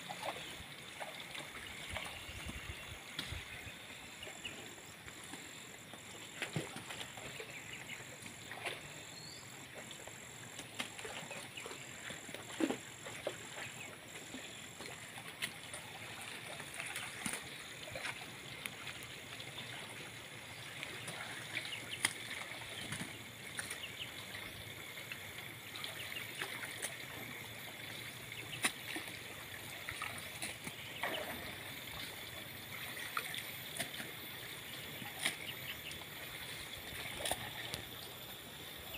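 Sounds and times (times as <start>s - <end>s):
muddy water sloshing: 0.0s - 38.9s.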